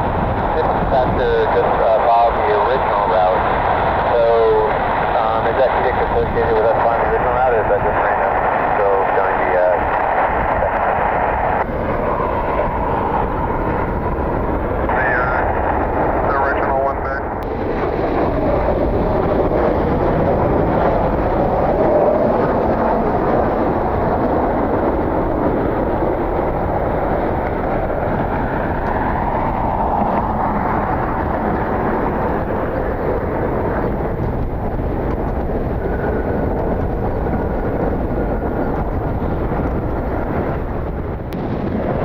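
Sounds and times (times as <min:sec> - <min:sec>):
faint steady whine: 0:00.0 - 0:42.0
jet engines roaring: 0:00.0 - 0:42.0.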